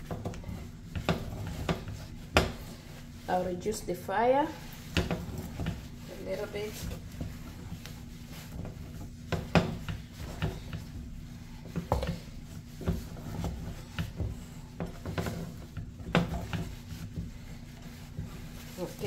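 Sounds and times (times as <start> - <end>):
wooden spatula scraping a pot: 0.0 - 19.0.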